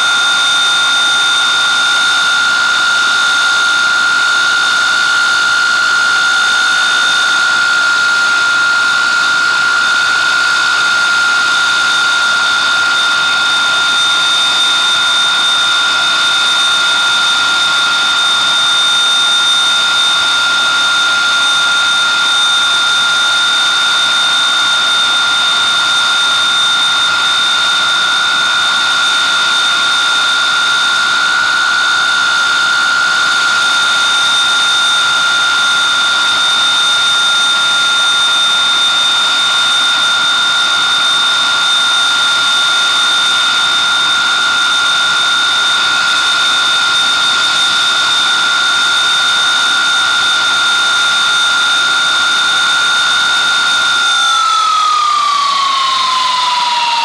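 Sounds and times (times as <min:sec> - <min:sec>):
jet engines roaring with whine: 0:00.0 - 0:57.0.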